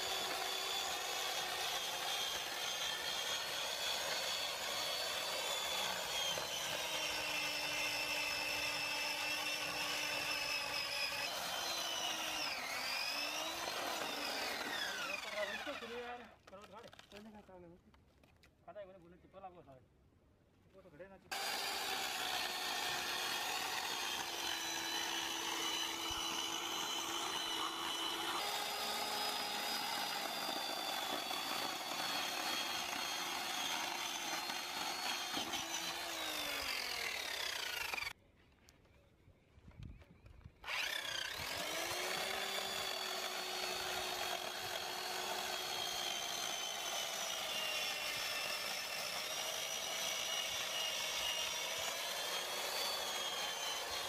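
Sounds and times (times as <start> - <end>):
electric chainsaw cutting log: 0.0 - 16.3, 21.3 - 38.2, 40.6 - 54.0.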